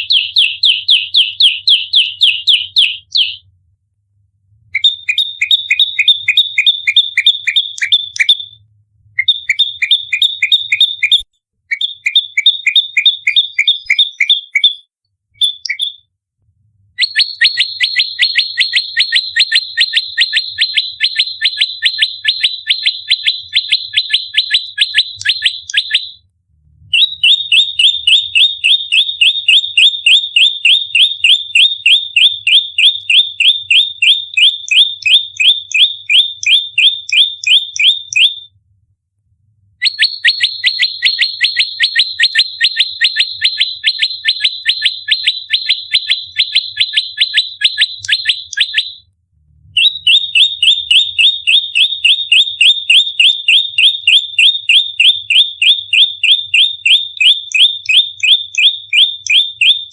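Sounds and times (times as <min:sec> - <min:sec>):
bird sharp downward chirps: 0:00.0 - 0:03.4, 0:04.8 - 0:08.6, 0:09.2 - 0:16.1, 0:17.0 - 0:26.2, 0:26.9 - 0:38.5, 0:39.8 - 0:49.0, 0:49.8 - 0:59.9.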